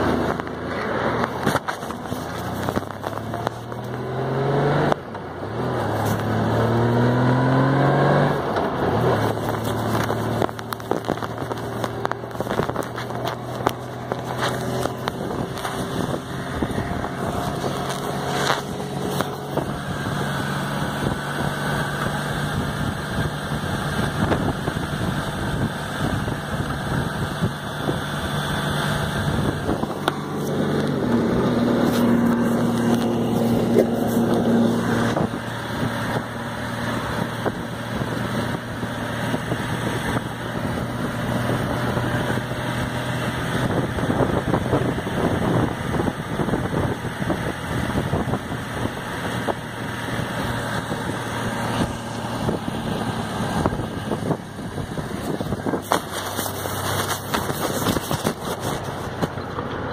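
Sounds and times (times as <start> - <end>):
motorcycle engine running: 0.0 - 59.9
wind noise on microphone: 5.6 - 59.9.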